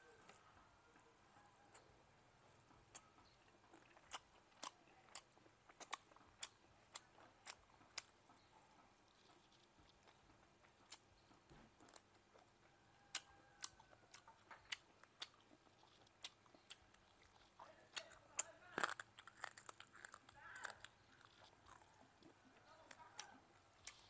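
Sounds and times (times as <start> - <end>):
wet chewing and biting: 0.0 - 24.0.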